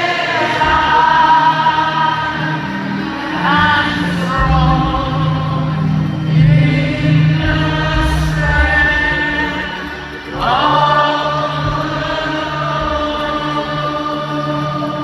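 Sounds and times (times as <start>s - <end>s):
gospel choir singing: 0.0s - 15.0s
low instrumental accompaniment: 0.0s - 15.0s.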